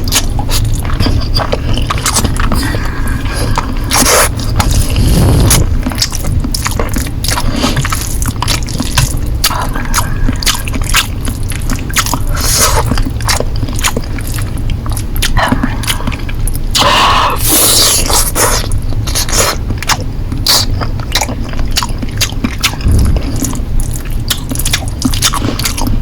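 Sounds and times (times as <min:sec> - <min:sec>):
noodle chewing with wet mouth clicks: 0:00.0 - 0:16.9, 0:17.5 - 0:26.0.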